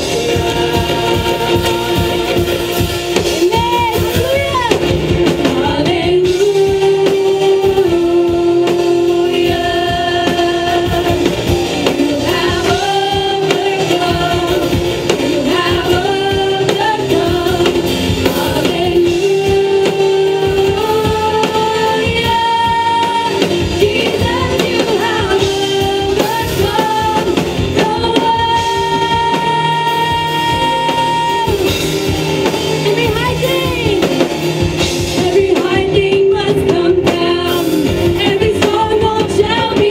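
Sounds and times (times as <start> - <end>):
women singing into microphones: 0.0 - 32.1, 34.8 - 39.9.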